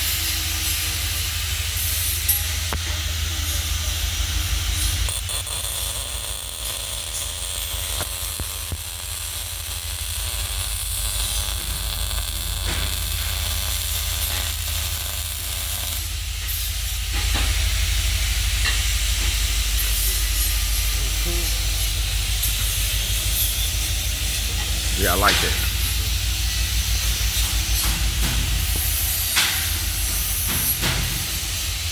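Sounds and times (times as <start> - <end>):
welding arc crackling: 4.1 - 31.9.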